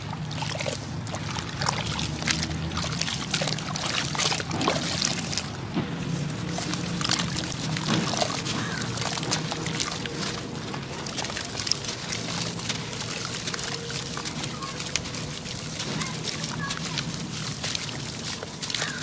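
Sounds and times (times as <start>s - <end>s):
grains trickling: 0.0s - 19.0s.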